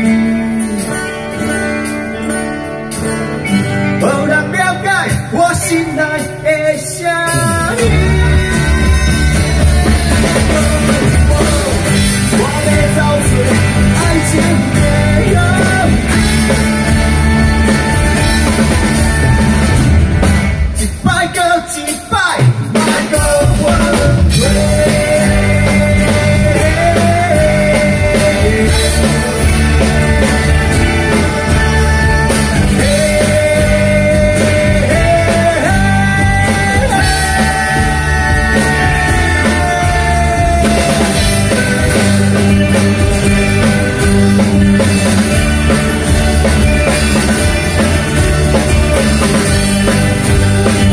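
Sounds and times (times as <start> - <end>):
live rock band playing: 0.0 - 50.9
lead vocal singing: 4.0 - 50.9.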